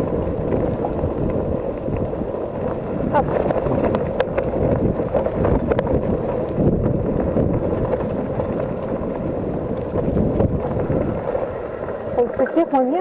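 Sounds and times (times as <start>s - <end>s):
bicycle clicks: 0.0s - 12.2s
wind buffeting microphone: 0.0s - 13.0s.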